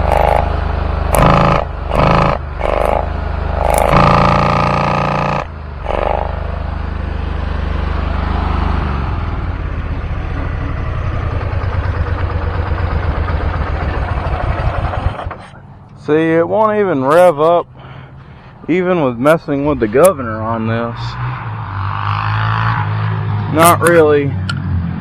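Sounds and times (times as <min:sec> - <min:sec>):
mower engine surging: 0:00.0 - 0:25.0.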